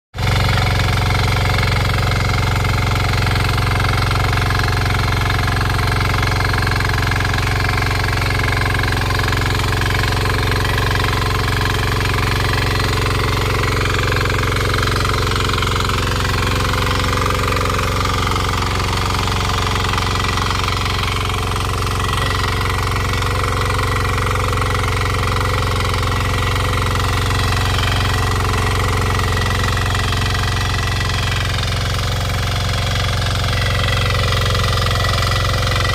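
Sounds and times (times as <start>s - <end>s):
small engine knocking: 0.2s - 35.9s.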